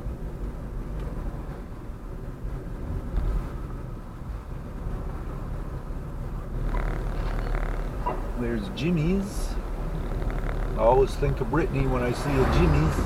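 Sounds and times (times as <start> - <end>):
car road noise rumble: 0.0 - 13.0.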